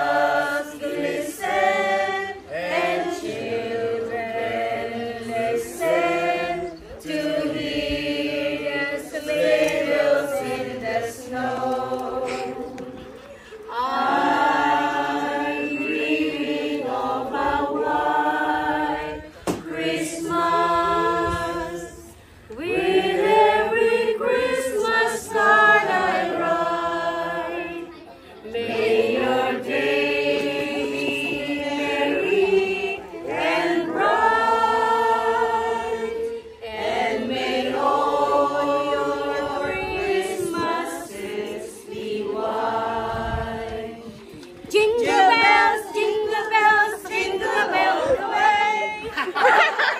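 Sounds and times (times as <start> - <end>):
group of men and women singing: 0.0 - 49.9.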